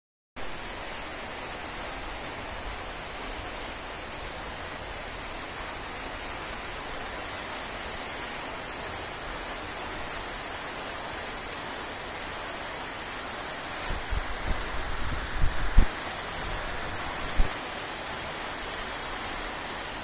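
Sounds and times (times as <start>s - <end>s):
steady rainfall: 0.4s - 20.0s.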